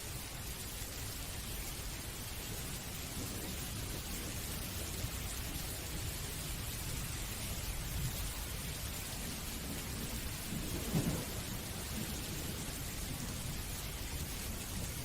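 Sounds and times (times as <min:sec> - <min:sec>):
steady rain: 0:00.0 - 0:15.0
low rumble of thunder: 0:00.2 - 0:15.0.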